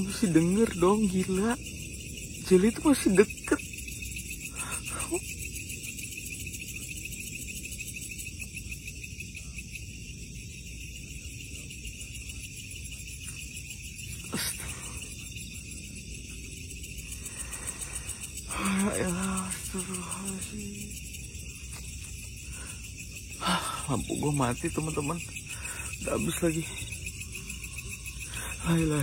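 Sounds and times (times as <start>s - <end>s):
night insects chirring: 0.0s - 29.0s.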